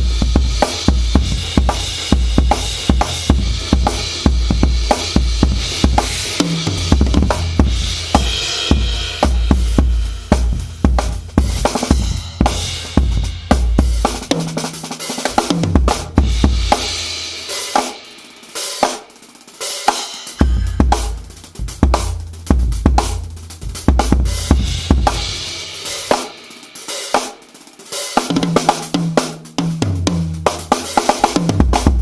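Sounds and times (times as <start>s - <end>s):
bass drum: 0.0s - 17.1s, 20.4s - 26.1s, 28.3s - 32.0s
cymbals: 0.0s - 32.0s
hi-hat: 0.0s - 32.0s
snare drum: 0.0s - 32.0s.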